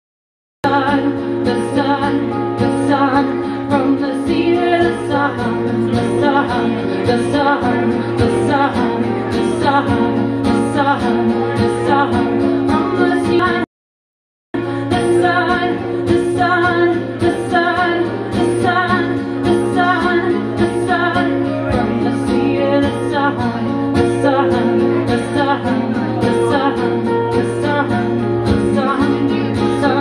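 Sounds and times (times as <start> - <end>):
acoustic guitars strumming: 0.6 - 13.6, 14.6 - 30.0
woman singing: 0.6 - 13.7, 14.6 - 30.0.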